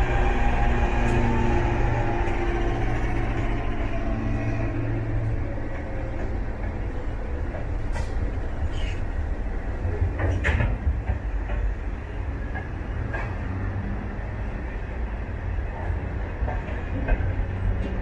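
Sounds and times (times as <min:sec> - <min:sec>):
diesel locomotive engine drone: 0:00.0 - 0:18.0
train wheels rumbling on rails: 0:00.0 - 0:18.0.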